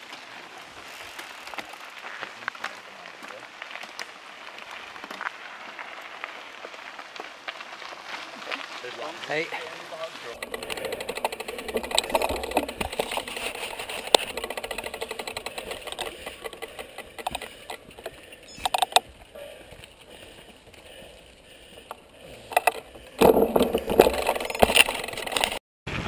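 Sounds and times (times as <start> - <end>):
bikes clicking and rattling: 0.0 - 25.6
footsteps on dirt: 0.0 - 25.6.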